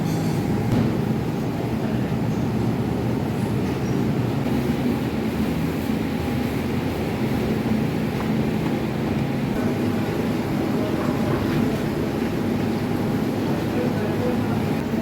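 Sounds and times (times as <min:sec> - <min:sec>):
bakery machinery rumbling: 0:00.0 - 0:15.0.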